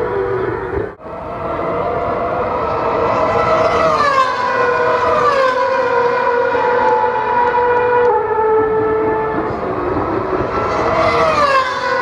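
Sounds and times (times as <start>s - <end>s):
racing car engines screaming past: 0.2s - 8.4s, 10.5s - 12.0s.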